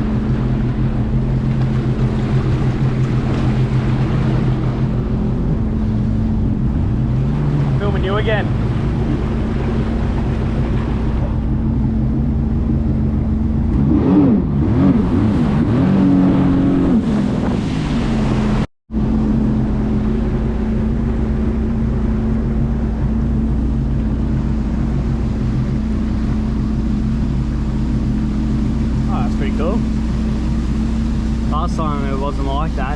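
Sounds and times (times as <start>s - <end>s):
jet ski engine running: 0.0s - 32.9s
water: 0.0s - 32.9s.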